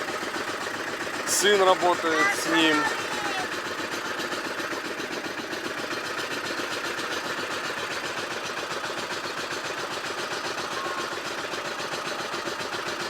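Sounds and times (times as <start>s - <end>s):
boat engine clattering: 0.0s - 13.0s.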